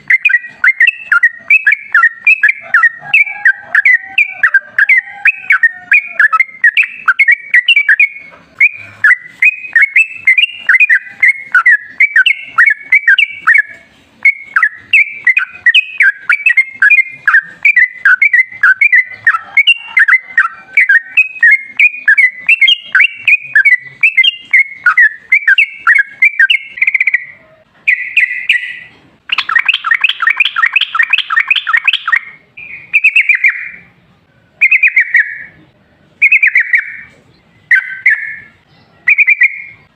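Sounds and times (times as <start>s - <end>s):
bird singing bubbly notes: 0.0s - 33.8s.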